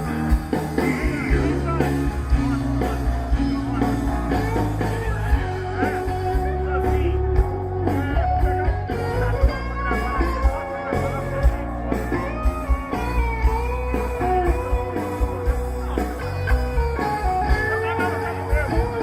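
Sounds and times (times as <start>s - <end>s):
bass guitar: 0.0s - 19.0s
drums: 0.0s - 19.0s
guitar lead line: 0.0s - 19.0s.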